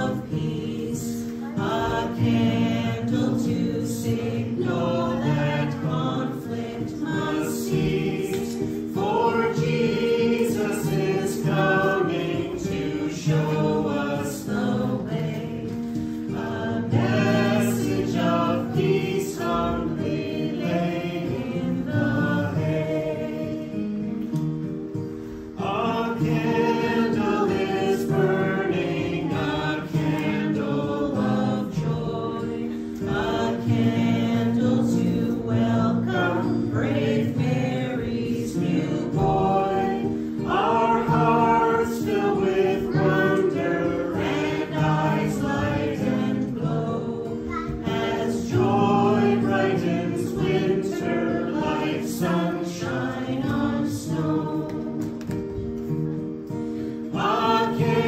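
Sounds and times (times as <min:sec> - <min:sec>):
held accompanying notes: 0:00.0 - 0:58.0
voices singing a hymn: 0:00.0 - 0:58.0.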